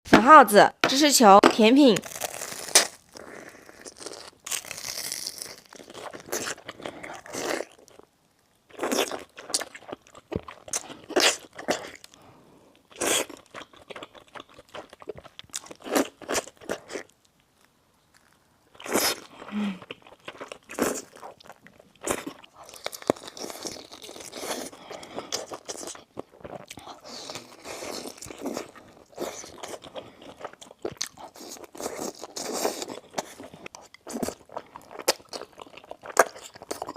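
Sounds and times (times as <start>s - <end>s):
chewing crunchy food: 2.0s - 36.9s.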